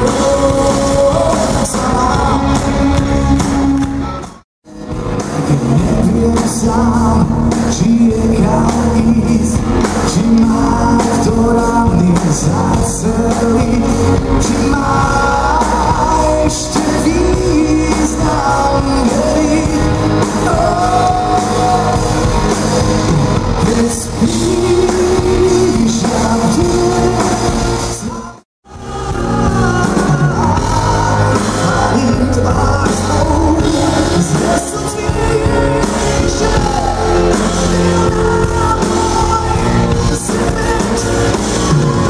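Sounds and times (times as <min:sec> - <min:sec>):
male singer: 0:00.0 - 0:04.2, 0:04.9 - 0:42.0
drums: 0:00.0 - 0:42.0
electric guitars: 0:00.0 - 0:42.0.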